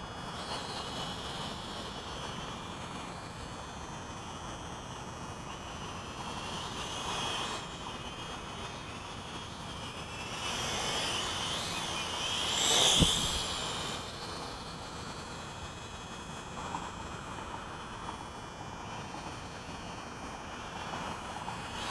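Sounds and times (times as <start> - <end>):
quadcopter propellers whining: 0.1 - 18.0.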